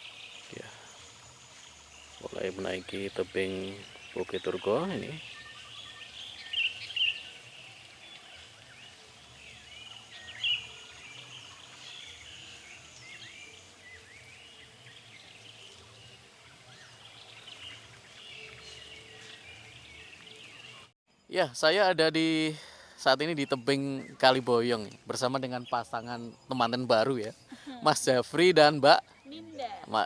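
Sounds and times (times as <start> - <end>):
birds chirping: 0.0 - 30.0
faint outdoor background: 0.0 - 30.0.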